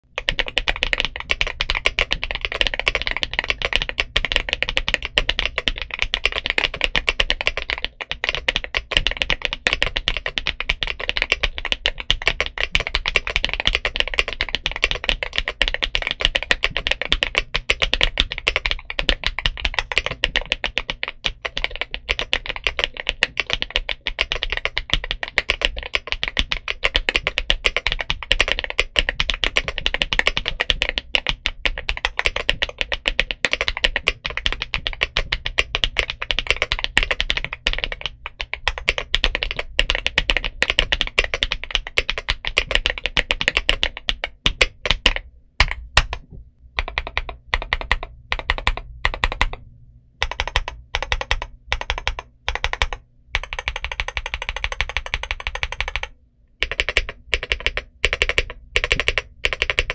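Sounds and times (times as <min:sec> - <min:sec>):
mechanical keyboard typing: 0:00.1 - 0:49.6, 0:50.2 - 0:59.9.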